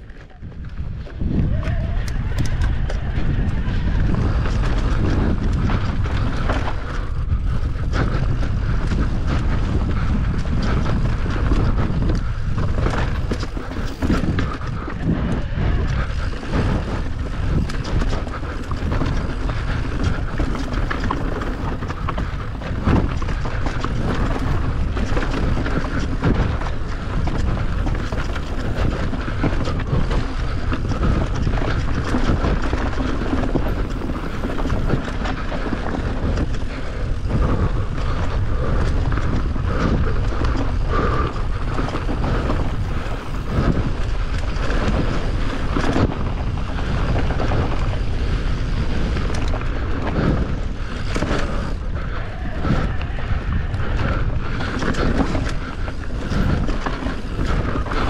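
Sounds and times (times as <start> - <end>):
bike knocking and rattling: 0.0 - 58.0
wind rushing over microphone: 0.0 - 58.0.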